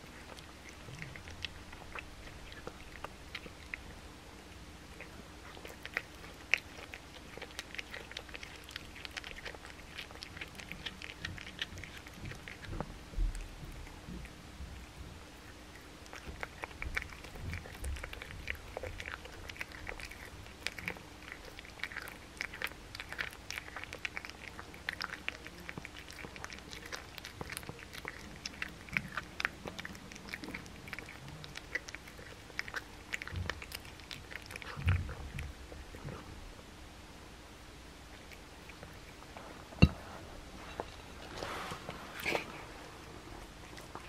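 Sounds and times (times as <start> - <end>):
cat chewing raw chicken: 0.0 - 36.7, 38.0 - 44.0.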